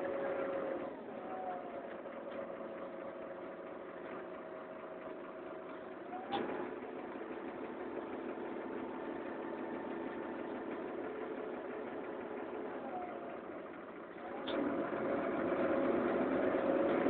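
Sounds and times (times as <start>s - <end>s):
bus drivetrain whine: 0.0s - 17.0s.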